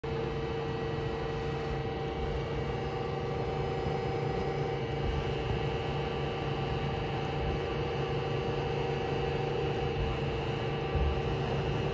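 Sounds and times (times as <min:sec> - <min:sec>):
lathe humming and whining: 0:00.0 - 0:11.9.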